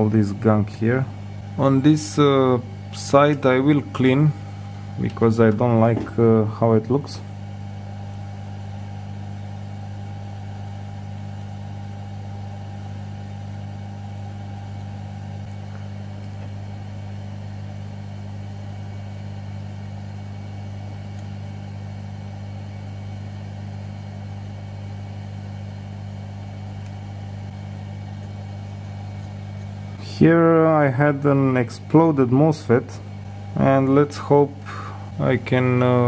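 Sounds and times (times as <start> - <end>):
mains electrical hum: 0.0 - 36.0.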